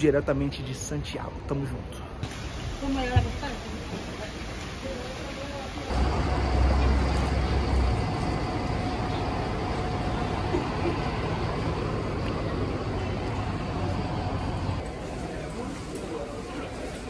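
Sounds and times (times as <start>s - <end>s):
street traffic noise: 0.0s - 17.0s
bus engine rumble: 2.4s - 17.0s.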